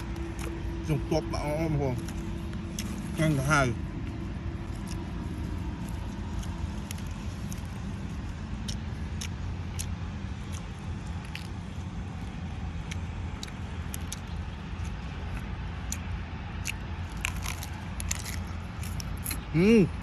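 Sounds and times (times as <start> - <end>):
chewing and mouth clicks: 0.0 - 1.0, 1.8 - 20.0
steady low rumble: 0.0 - 20.0.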